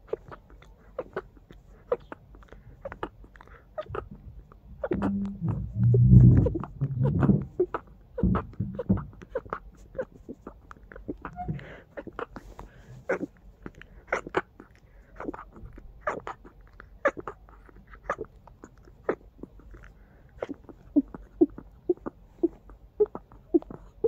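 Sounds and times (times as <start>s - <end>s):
sniffles: 0.0s - 24.0s.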